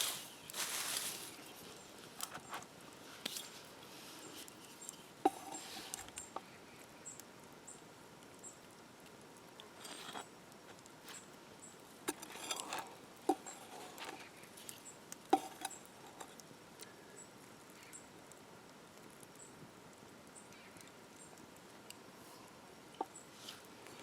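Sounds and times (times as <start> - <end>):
faint steady background noise: 0.0 - 24.0.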